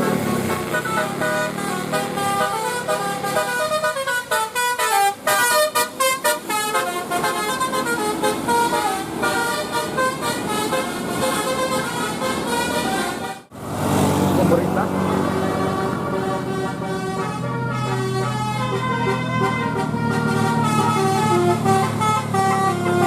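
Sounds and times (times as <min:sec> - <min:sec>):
multi-tone musical bus horn: 0:00.0 - 0:13.6, 0:15.1 - 0:23.0.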